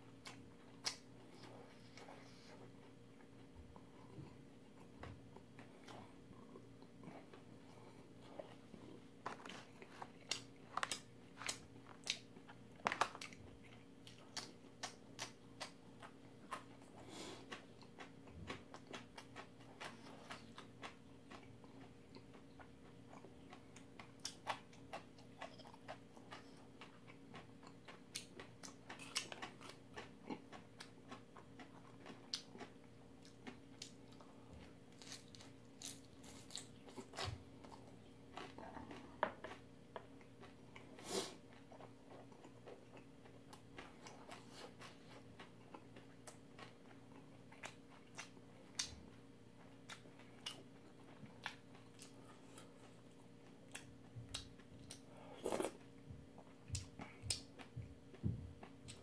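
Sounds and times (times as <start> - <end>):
faint steady hum: 0.0 - 59.0
person chewing food: 0.1 - 59.0.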